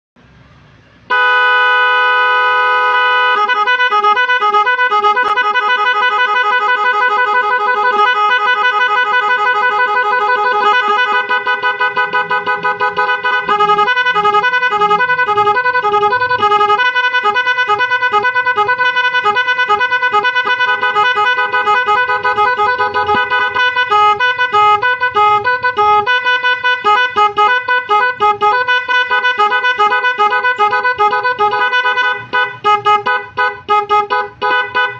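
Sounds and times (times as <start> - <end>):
electronic horn playing melody: 1.1 - 34.9.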